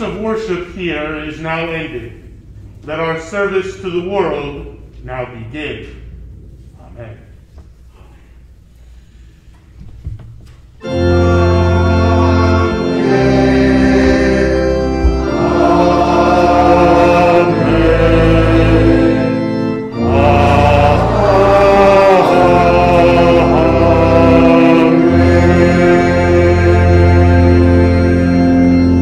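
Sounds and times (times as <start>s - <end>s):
organ playing chords: 0.0s - 6.7s, 10.8s - 29.0s.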